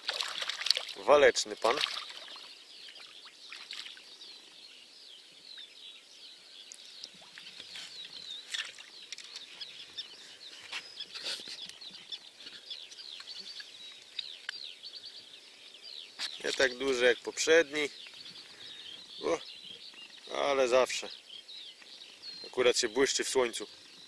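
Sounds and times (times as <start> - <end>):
birds singing and chirping: 0.0 - 24.0.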